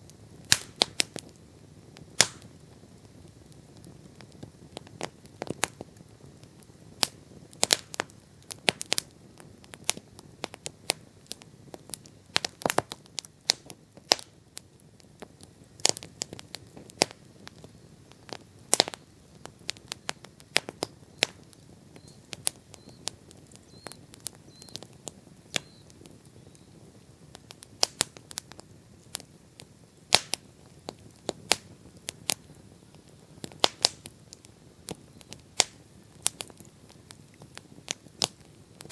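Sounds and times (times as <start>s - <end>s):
bonfire crackling: 0.0s - 38.9s
low hiss of burning fire: 0.0s - 38.9s.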